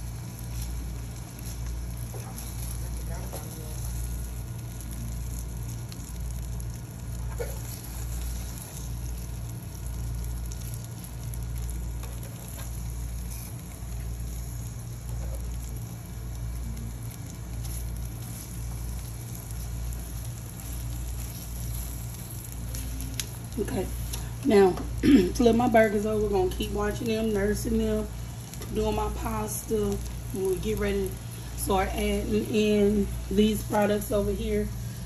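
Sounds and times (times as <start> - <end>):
low pulsing hum: 0.0 - 35.0
patties sizzling on a grill: 0.0 - 35.0.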